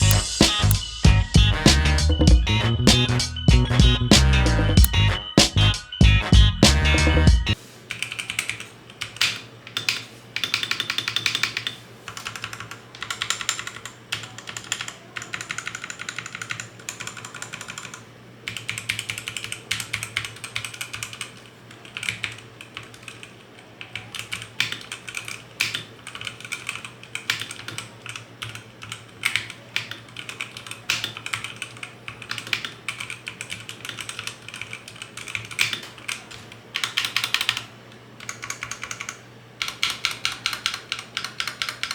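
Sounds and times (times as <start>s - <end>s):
mechanical keyboard typing: 0.0s - 0.8s, 7.9s - 41.9s.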